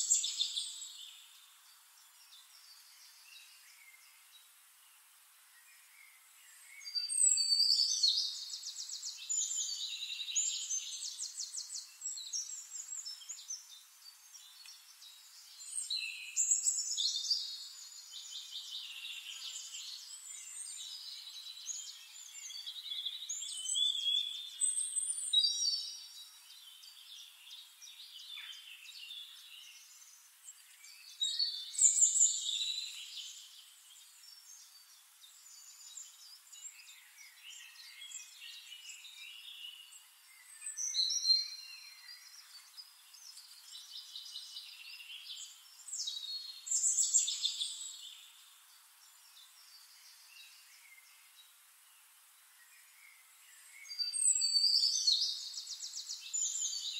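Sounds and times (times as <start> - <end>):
faint hiss: 0.0 - 56.9
songbirds trilling and chirping: 0.0 - 56.9.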